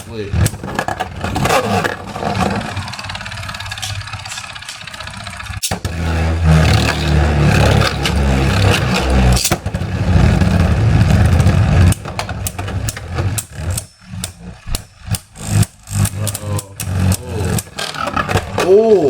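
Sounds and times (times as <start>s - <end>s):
spinning tops clacking and rattling: 0.0s - 19.0s
spinning tops whirring and grinding: 0.0s - 19.0s.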